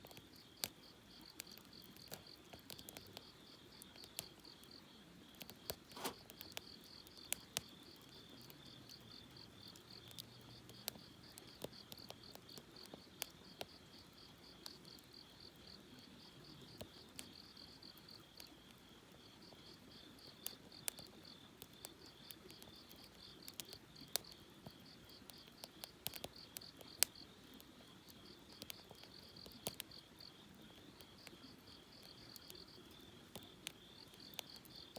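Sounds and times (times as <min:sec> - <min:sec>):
campfire crackling and popping: 0:00.0 - 0:34.9
crickets chirping: 0:00.1 - 0:34.9.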